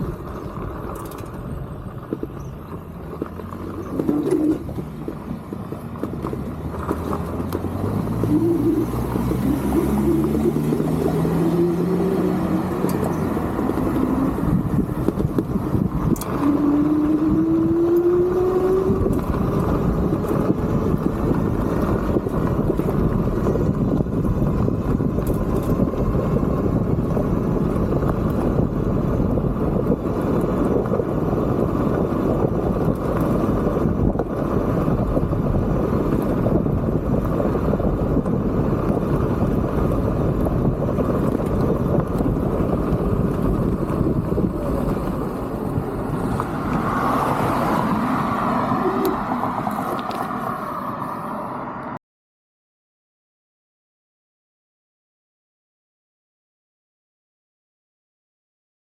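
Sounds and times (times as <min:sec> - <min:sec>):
electric hub motor whine: 0:00.0 - 0:51.9
tyre and road noise: 0:00.0 - 0:52.0
wind rushing on microphone: 0:00.0 - 0:52.0.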